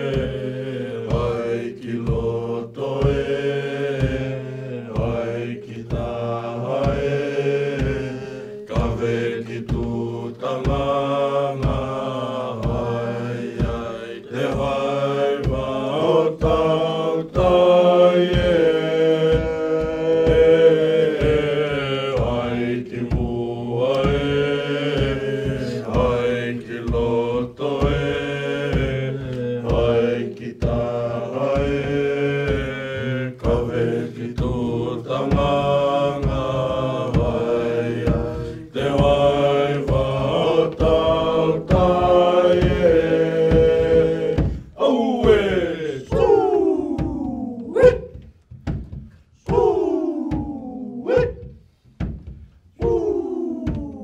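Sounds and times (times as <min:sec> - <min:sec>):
group chanting in unison: 0:00.0 - 0:48.3, 0:49.3 - 0:51.7, 0:52.8 - 0:54.0.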